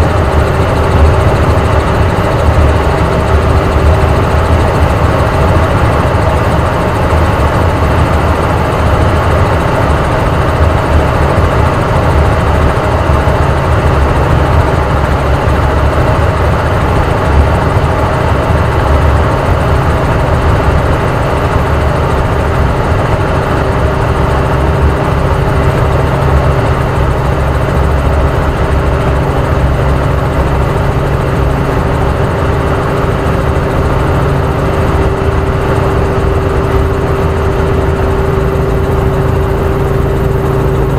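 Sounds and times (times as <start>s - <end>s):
helicopter rotor and engine: 0.0s - 40.9s.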